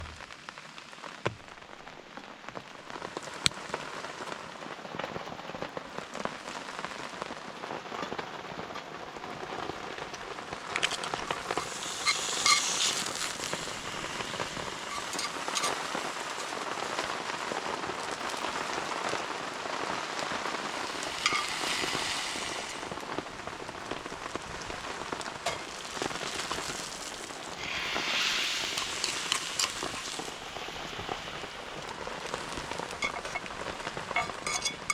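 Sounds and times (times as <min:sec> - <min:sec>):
sharp crackles: 0:00.0 - 0:34.9
steady rain: 0:00.0 - 0:34.9.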